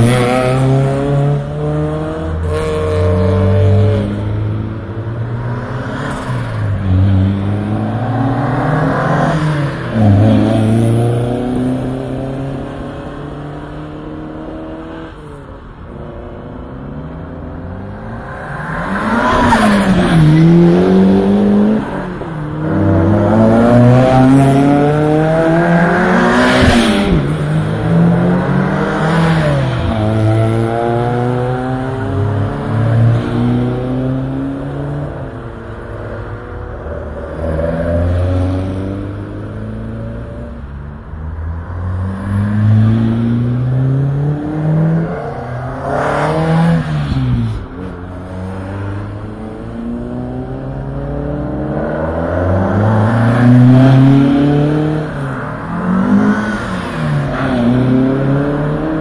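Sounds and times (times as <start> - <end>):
cars accelerating past: 0.0 - 59.0.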